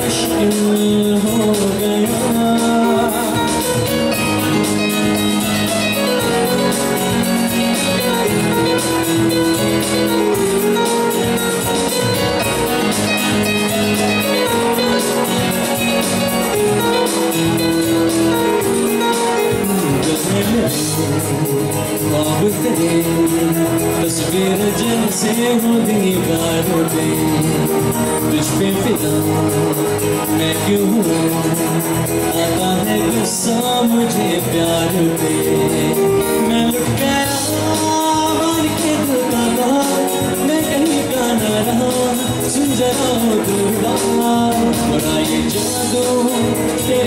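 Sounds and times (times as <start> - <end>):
guitar: 0.0 - 47.0
keyboard melody: 0.0 - 47.0
live band playing: 0.0 - 47.0.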